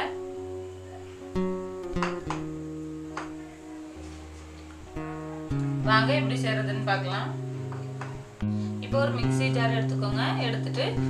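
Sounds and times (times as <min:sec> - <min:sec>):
plucked guitar notes: 0:00.0 - 0:11.0.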